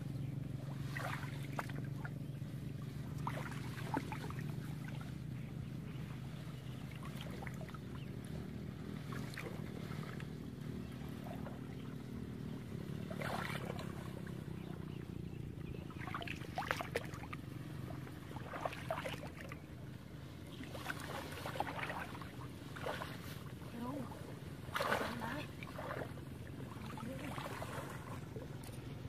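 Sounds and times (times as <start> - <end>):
steady low rumble: 0.0 - 29.0
water sloshing and splashing: 0.0 - 29.0.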